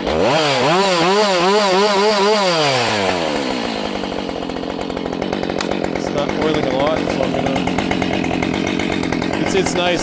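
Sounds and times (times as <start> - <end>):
chainsaw revving and idling: 0.0 - 10.0.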